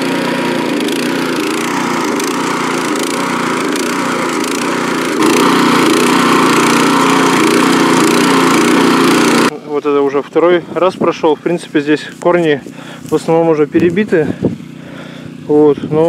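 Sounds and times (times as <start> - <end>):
cultivator petrol engine running: 0.0 - 16.0
tines milling through soil: 0.0 - 16.0.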